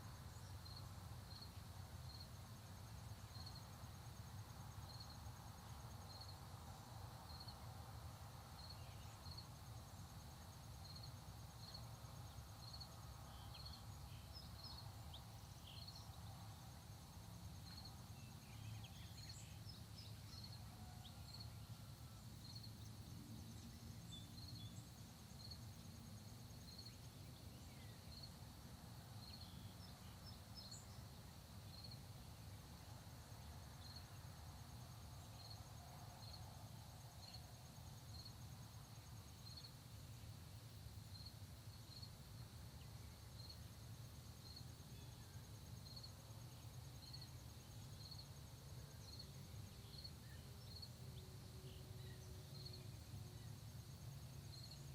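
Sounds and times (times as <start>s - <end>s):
insect chirps: 0.0s - 54.9s
insects trilling: 0.0s - 54.9s.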